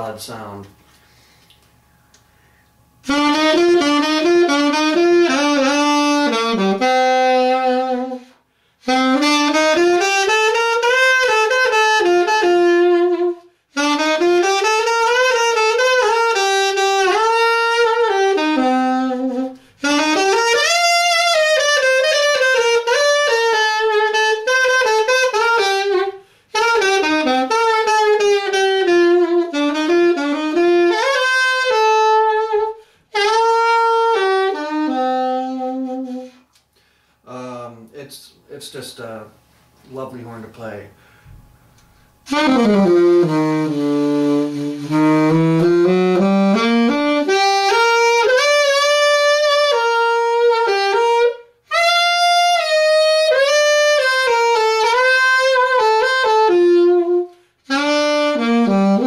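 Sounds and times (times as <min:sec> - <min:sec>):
alto saxophone solo melody: 0:02.3 - 0:37.5, 0:42.2 - 0:59.0.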